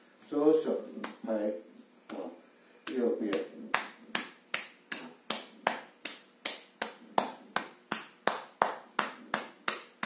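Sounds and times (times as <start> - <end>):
palm slapping chest: 0.9 - 1.3, 2.1 - 10.0.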